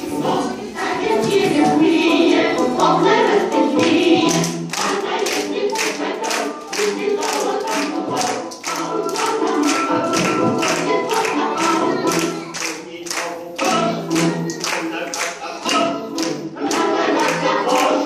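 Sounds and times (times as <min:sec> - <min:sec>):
choral singing over music: 0:00.0 - 0:18.0.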